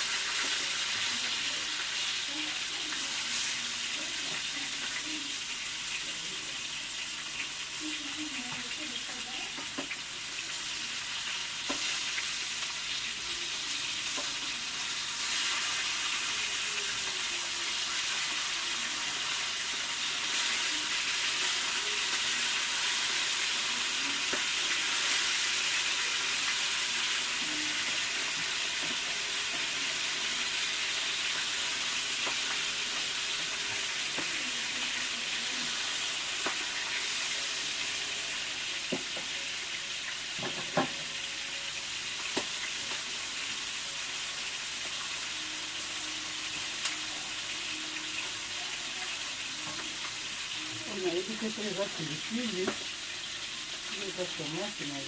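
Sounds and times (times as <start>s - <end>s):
onions sizzling in a pan: 0.0s - 55.0s.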